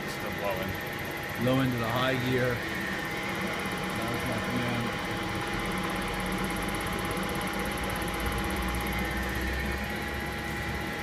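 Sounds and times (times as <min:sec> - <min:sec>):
milling machine spindle humming: 0:00.0 - 0:11.0.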